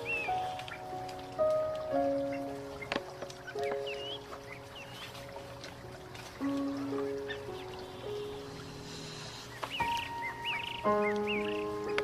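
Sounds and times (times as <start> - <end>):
soft music with held notes: 0.0 - 12.0
water dripping: 0.0 - 12.0.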